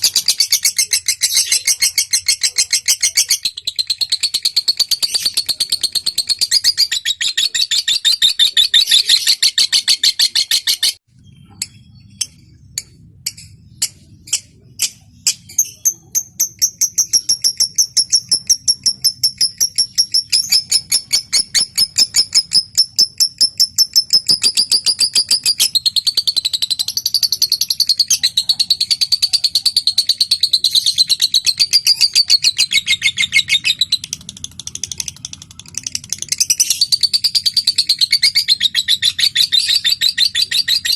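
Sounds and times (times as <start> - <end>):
lovebird chattering and ticking: 0.0 - 40.9.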